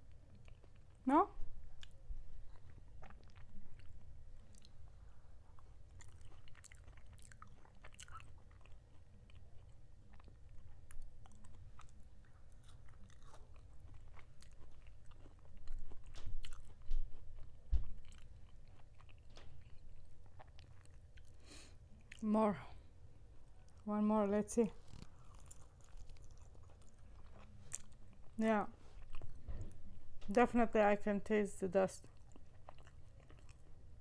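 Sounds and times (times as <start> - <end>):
chewing and biting food: 0.0 - 1.0, 1.8 - 22.2, 24.8 - 30.0, 32.0 - 33.9.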